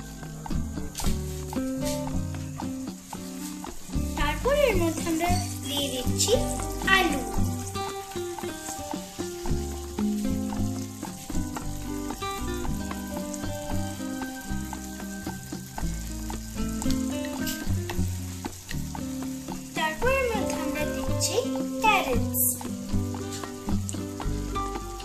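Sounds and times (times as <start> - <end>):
background music: 0.0 - 25.0
vegetables sizzling in oil: 0.0 - 25.0.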